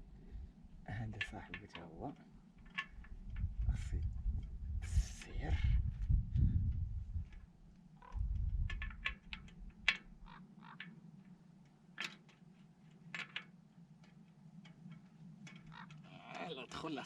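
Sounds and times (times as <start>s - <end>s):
low rumbling handling noise: 0.0s - 17.0s
steady low hum: 0.0s - 17.0s
clicks and taps on bicycle cable: 1.1s - 11.0s, 11.6s - 16.5s.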